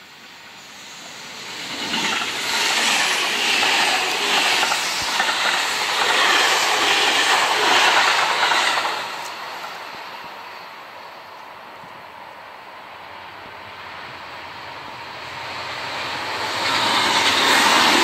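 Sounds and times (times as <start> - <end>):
electric train passing on rails: 0.0 - 18.0.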